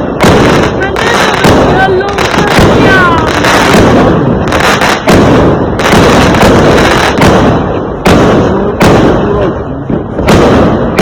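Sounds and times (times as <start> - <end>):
fireworks bangs: 0.0 - 11.0
fireworks crackling and rumble: 0.0 - 11.0.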